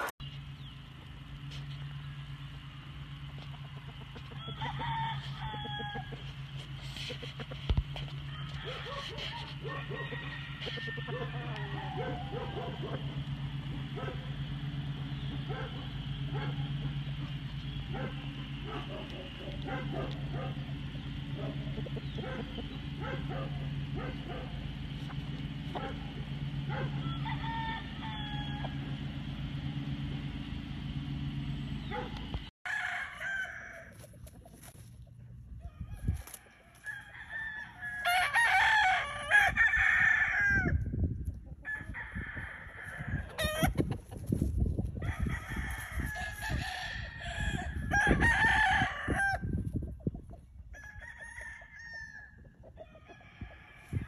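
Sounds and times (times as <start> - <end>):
chickens clucking: 0.0 - 32.5, 33.8 - 38.1, 40.8 - 48.2, 49.0 - 54.0
steady low hum: 0.0 - 50.8
roosters crowing: 0.0 - 54.0.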